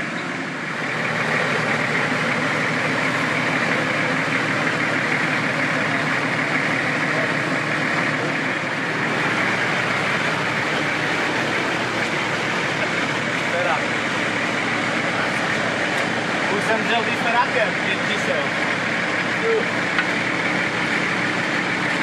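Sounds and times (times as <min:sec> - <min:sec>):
vehicle engine running steadily: 0:00.0 - 0:22.0.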